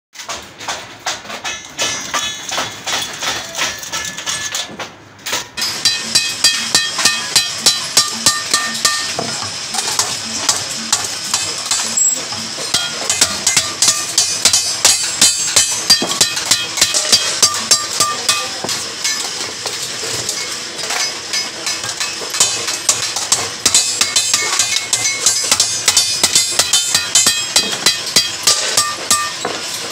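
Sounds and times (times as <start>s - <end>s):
hammer clanging on steel bucket: 0.2s - 29.9s.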